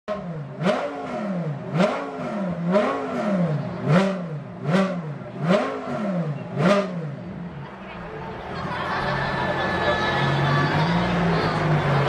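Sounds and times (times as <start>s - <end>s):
race car engine revving: 0.1s - 12.0s.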